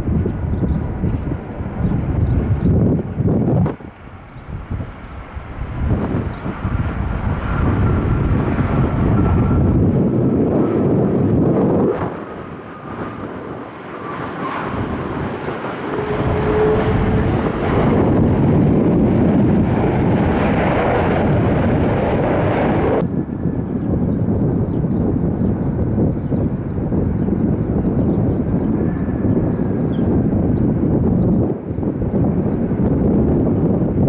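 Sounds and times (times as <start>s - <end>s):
airliner engines passing: 0.0s - 34.0s
wind on microphone: 0.0s - 34.0s.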